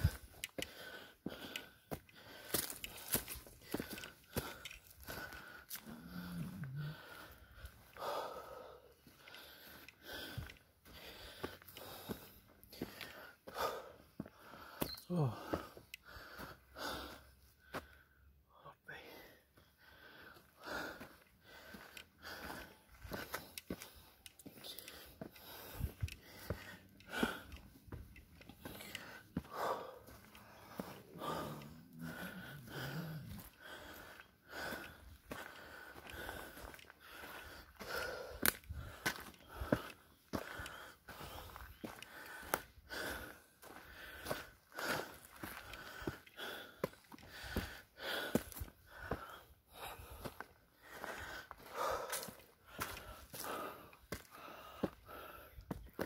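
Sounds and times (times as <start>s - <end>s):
footsteps on dirt path: 0.0s - 18.1s, 19.0s - 56.0s
person breathing heavily: 0.0s - 56.0s.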